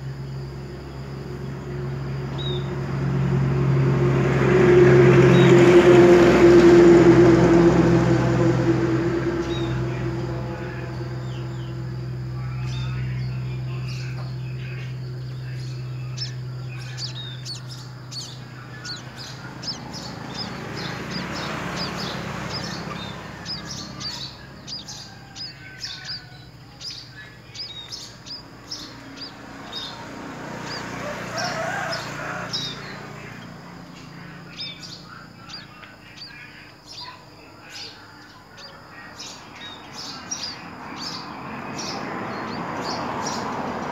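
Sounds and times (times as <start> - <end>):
small birds chirping: 0.0 - 3.0, 8.3 - 43.9.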